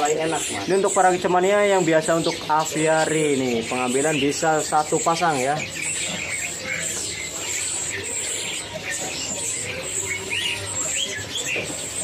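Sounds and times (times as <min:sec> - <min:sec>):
caged songbirds chirping: 0:00.0 - 0:12.0
steady background noise: 0:00.0 - 0:12.0.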